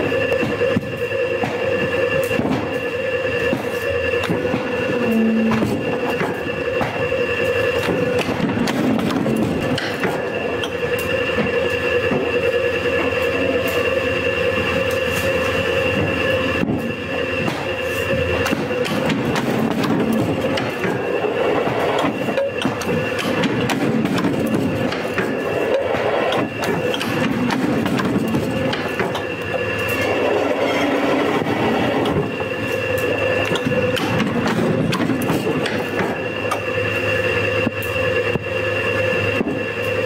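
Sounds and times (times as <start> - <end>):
paper cutter machine hum: 0.0 - 40.0.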